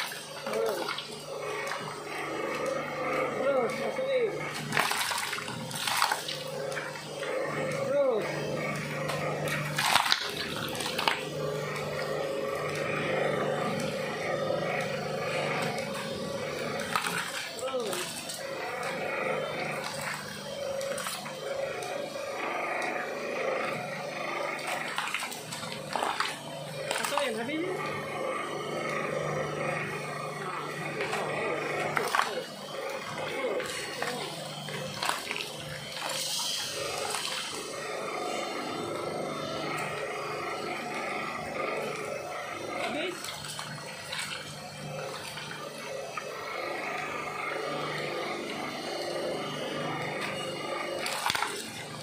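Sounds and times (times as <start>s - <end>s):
cutters crunching plastic: 0.0s - 12.0s, 14.8s - 23.1s, 23.7s - 28.2s, 29.9s - 39.9s, 40.8s - 52.0s
shredder motor humming: 0.0s - 52.0s.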